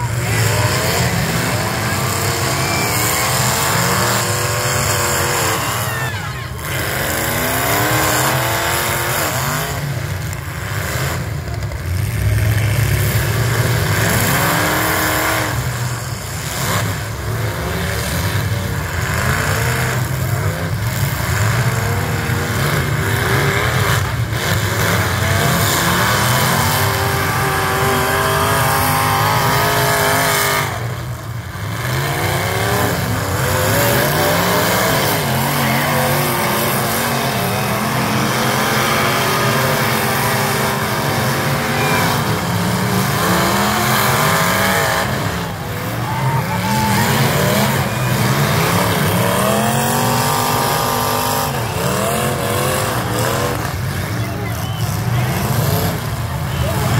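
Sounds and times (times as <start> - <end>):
car engines revving: 0.0 - 56.9.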